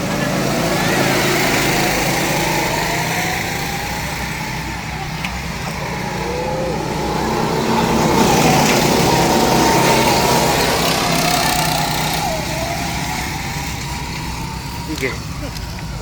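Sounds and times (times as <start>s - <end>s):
go-kart engines running: 0.0s - 16.0s.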